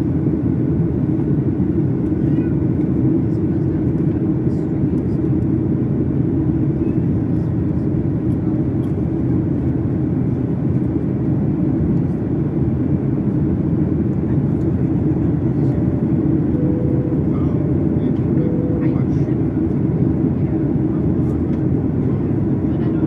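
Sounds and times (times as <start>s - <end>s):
airplane cabin drone: 0.0s - 23.0s.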